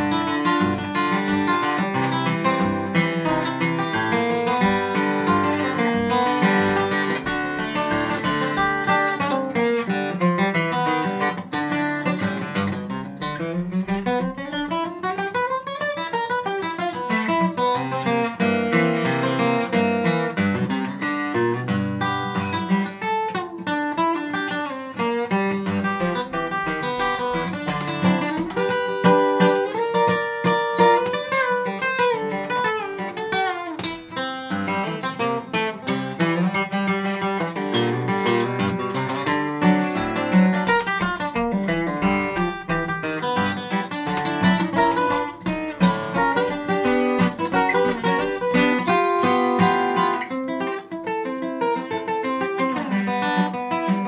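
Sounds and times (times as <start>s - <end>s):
fingerstyle acoustic blues guitar: 0.0s - 54.0s.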